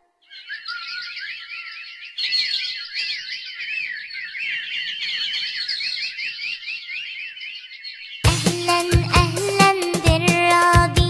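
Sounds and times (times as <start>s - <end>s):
small birds chirping: 0.1s - 9.7s.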